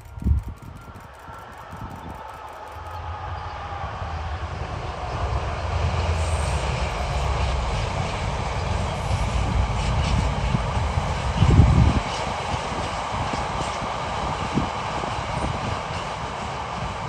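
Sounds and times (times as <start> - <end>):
diesel locomotive engine rumble: 0.0 - 17.0
train noise: 0.0 - 17.0.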